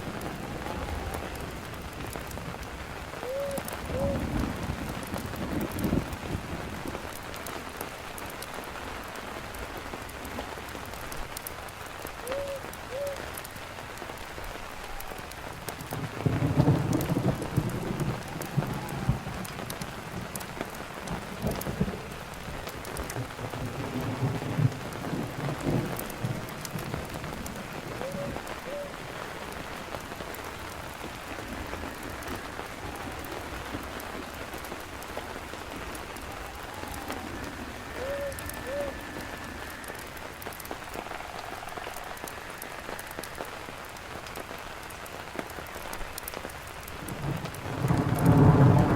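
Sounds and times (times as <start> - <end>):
raindrops ticking: 0.0 - 48.9
steady rain: 0.0 - 48.9.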